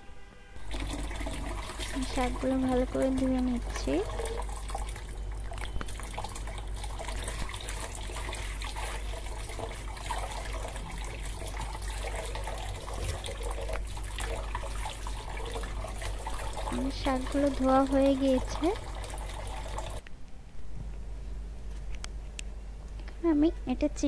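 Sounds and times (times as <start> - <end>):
tap water running into a pot: 0.6 - 20.0.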